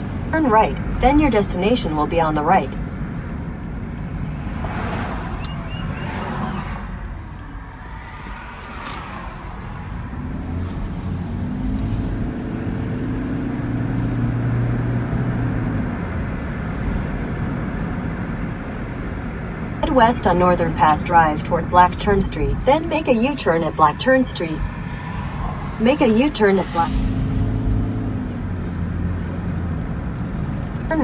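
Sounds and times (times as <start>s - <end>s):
car engine: 0.0s - 31.0s.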